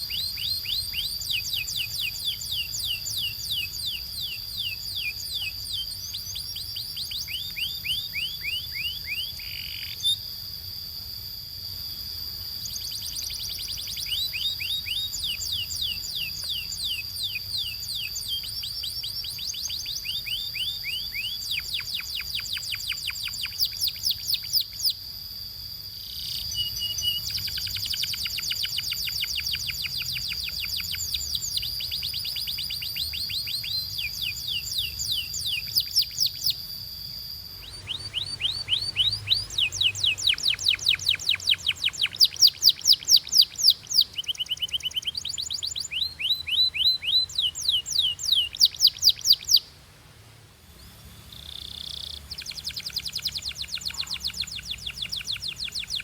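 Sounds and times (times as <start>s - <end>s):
canary singing trills: 0.0s - 49.8s, 50.8s - 56.0s
steady high whistle-like tone: 0.0s - 49.8s, 50.6s - 56.0s.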